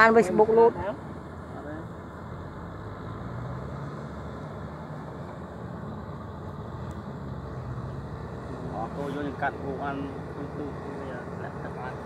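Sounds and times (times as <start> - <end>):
distant tractor engine humming: 0.0 - 12.0.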